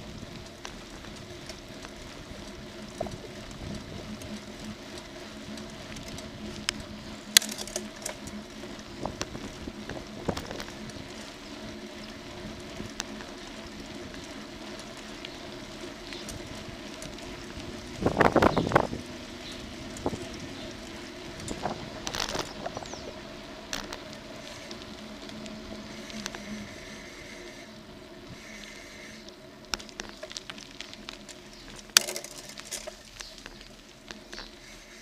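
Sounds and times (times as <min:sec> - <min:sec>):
bicycle tyres on tarmac: 0:00.0 - 0:35.0
bike clicks and knocks over bumps: 0:00.0 - 0:35.0.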